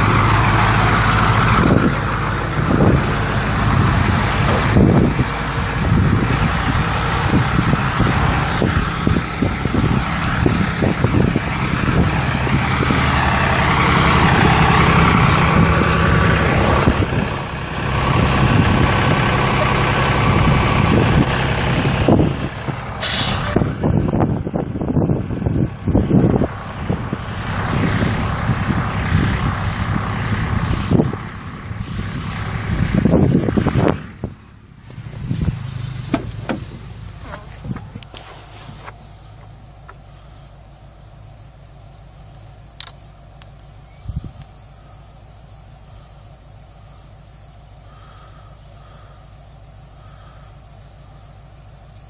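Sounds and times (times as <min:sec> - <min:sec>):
truck engine running: 0:00.0 - 0:52.0
wind and road noise: 0:00.0 - 0:52.0.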